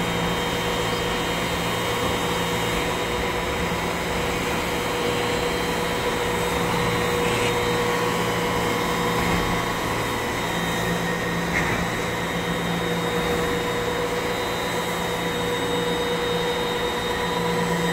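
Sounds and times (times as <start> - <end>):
feed mixer machine drone: 0.0 - 17.9.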